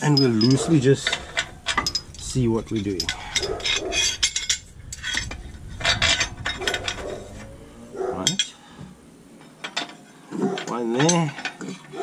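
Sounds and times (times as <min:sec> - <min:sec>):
metal plates clinking and scraping: 0:00.0 - 0:08.6, 0:09.4 - 0:12.0.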